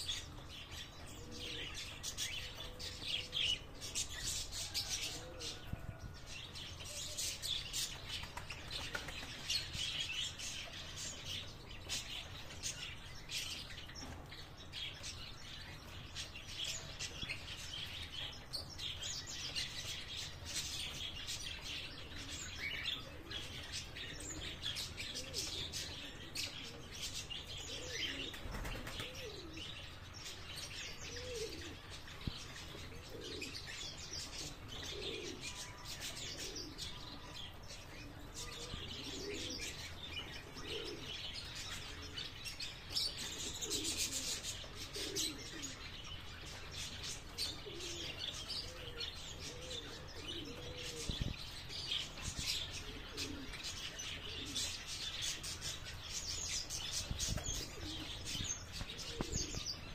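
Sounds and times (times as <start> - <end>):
pigeons cooing: 0.0 - 59.9
small birds chirping: 0.0 - 59.9.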